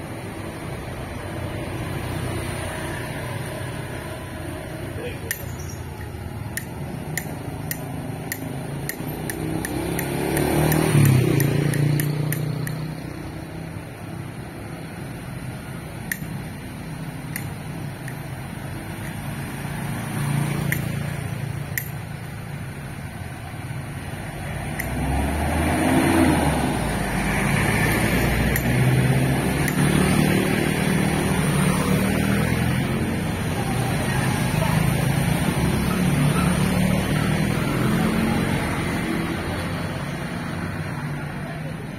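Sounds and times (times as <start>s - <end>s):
cars driving past: 0.0s - 41.9s
motorcycle engines: 0.0s - 41.9s.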